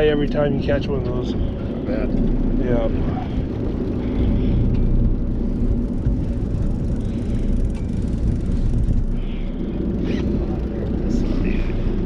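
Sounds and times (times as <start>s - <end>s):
boat engine rumbling: 0.0s - 12.0s
faint constant hum: 0.0s - 12.0s.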